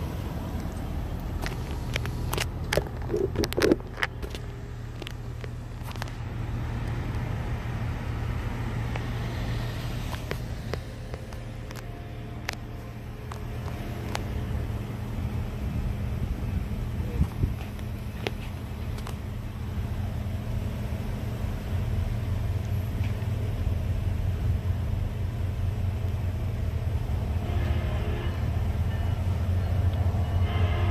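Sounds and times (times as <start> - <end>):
cars idling: 0.0 - 30.9.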